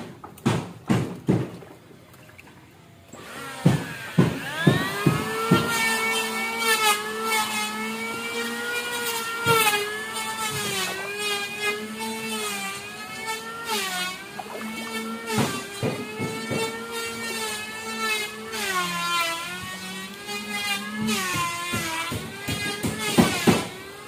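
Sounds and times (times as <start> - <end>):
small engine running: 3.1 - 24.0.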